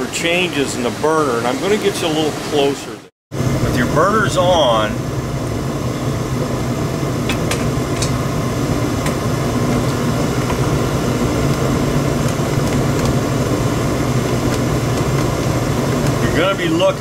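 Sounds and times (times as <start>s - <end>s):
furnace hum: 0.0s - 17.0s.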